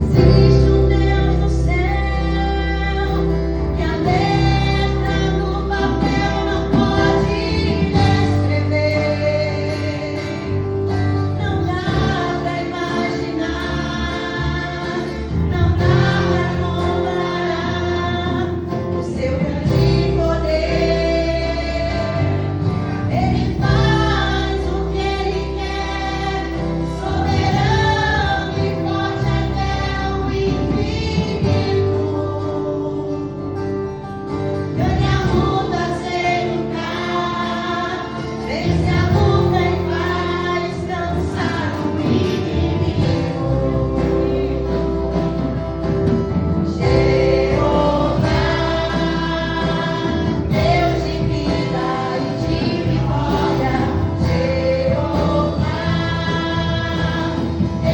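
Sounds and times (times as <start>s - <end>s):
group singing gospel song: 0.0s - 57.9s
instrumental accompaniment: 0.0s - 57.9s.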